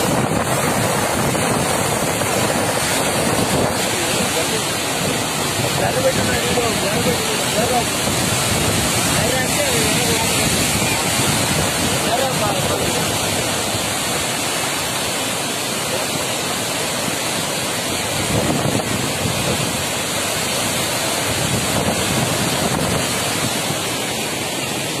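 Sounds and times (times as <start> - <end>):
water rushing through spillway: 0.0 - 25.0.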